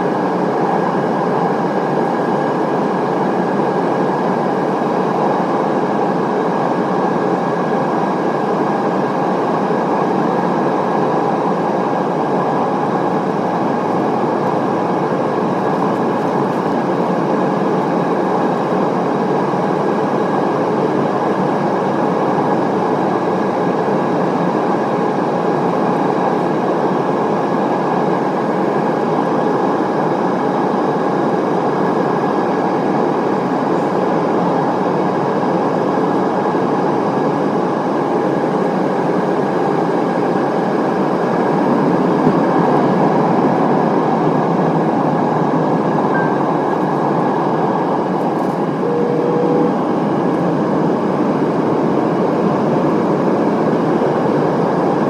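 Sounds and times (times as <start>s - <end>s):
airplane cabin engine drone: 0.0s - 55.0s
faint constant whine: 0.0s - 55.0s.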